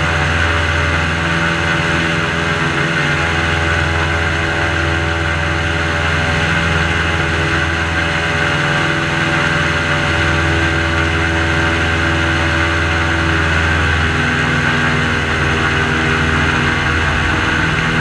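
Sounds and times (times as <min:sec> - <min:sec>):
airboat engine and propeller drone: 0:00.0 - 0:18.0.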